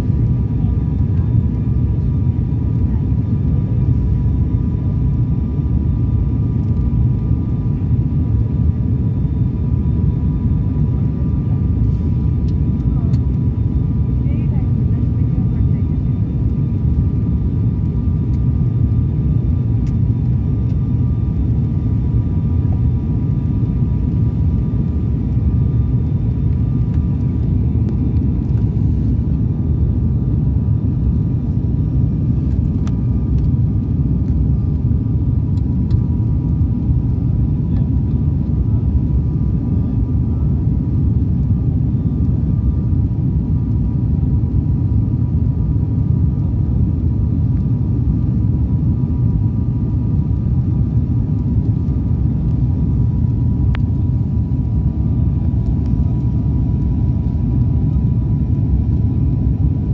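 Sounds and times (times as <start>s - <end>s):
airliner cabin roar in flight: 0.0s - 59.9s
faint steady whine: 0.0s - 59.9s.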